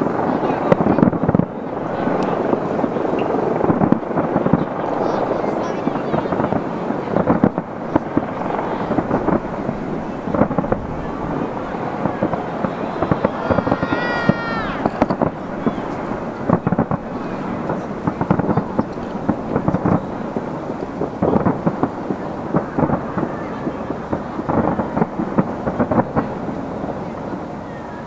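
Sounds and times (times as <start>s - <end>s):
firework booms: 0.0s - 28.0s
fireworks bangs and crackles: 0.0s - 28.0s.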